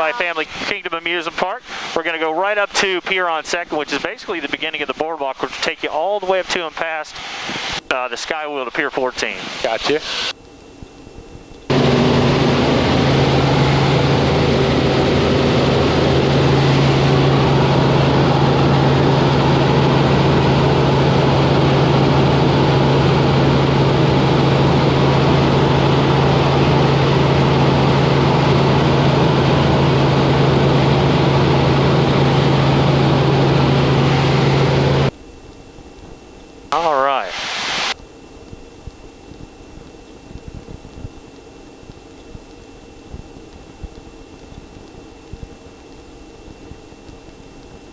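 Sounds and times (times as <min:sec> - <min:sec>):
helicopter rotor and engine drone: 0:00.0 - 0:47.9.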